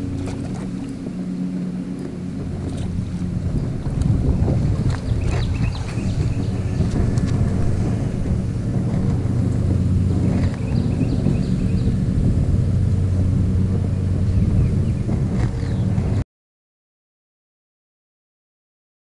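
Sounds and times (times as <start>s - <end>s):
stream water rushing: 0.0s - 16.2s
wind buffeting microphone: 0.0s - 16.2s.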